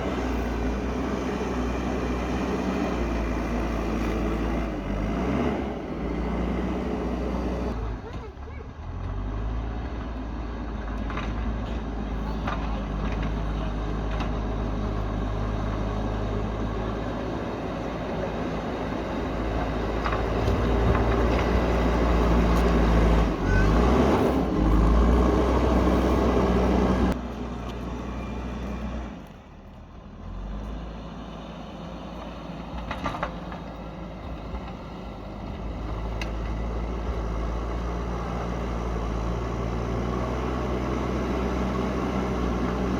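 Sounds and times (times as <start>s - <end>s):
heavy diesel engine working: 0.0s - 42.9s.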